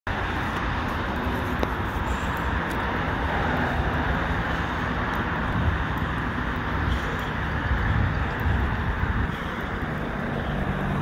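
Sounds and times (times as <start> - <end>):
road traffic roar: 0.0 - 11.0.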